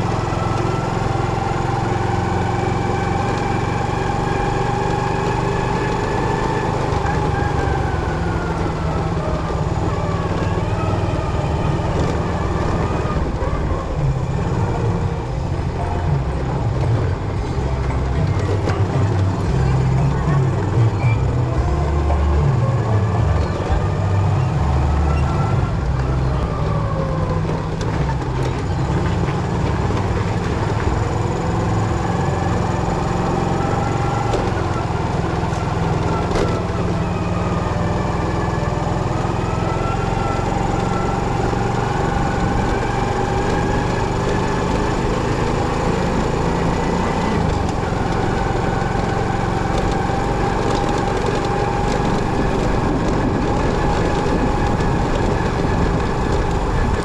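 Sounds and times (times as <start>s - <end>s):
engine whine: 0.0s - 57.0s
motorcycle engine rumble: 0.0s - 57.0s.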